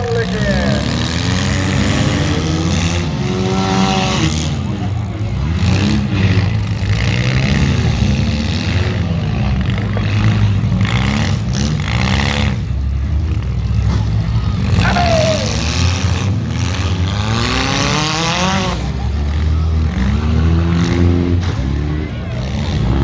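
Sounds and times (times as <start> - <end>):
car engines revving hard: 0.0 - 23.0.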